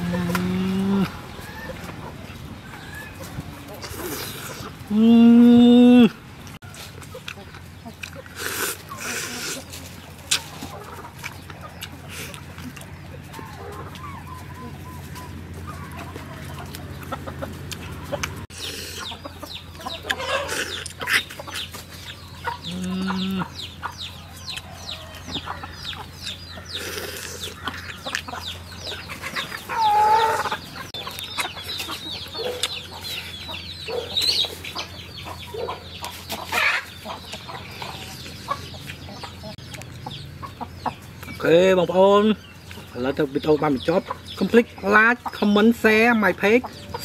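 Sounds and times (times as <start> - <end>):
crunching and chewing: 0.0 - 4.8, 6.6 - 41.4
chickens clucking: 0.0 - 47.0.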